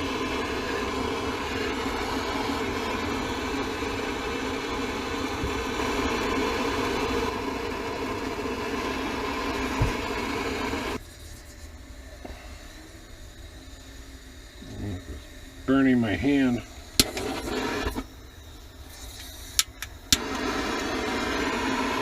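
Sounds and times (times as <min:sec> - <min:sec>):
gas torch flame roaring: 0:00.0 - 0:11.0, 0:12.0 - 0:22.0.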